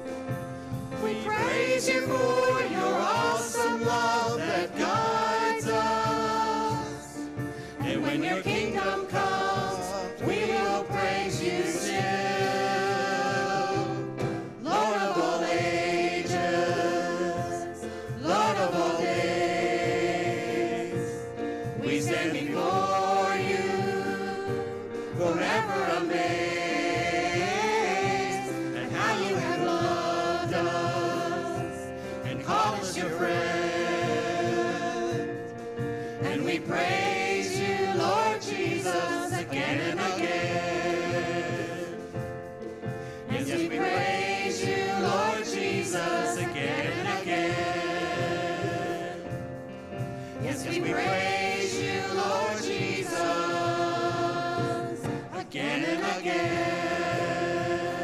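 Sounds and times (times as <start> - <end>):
group singing worship song: 0.0 - 58.0.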